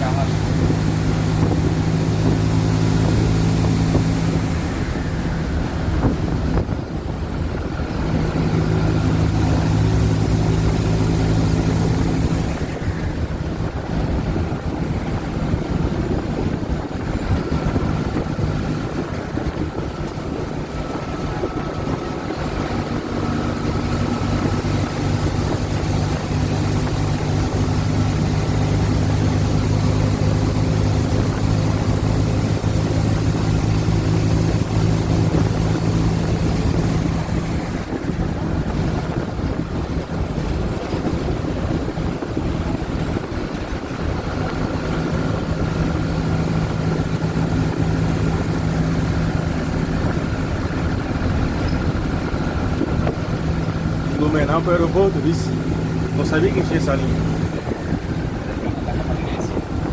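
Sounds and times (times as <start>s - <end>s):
bus engine running under load: 0.0s - 59.9s.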